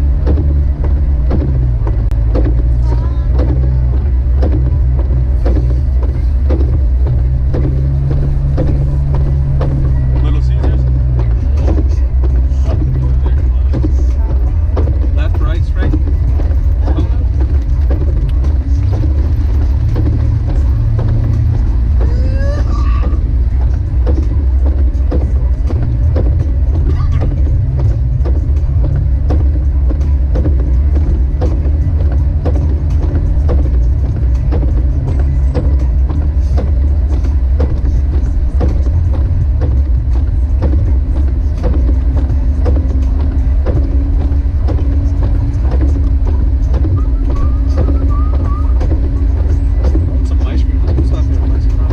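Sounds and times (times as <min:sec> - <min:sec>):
car engine rumbling: 0:00.0 - 0:51.9.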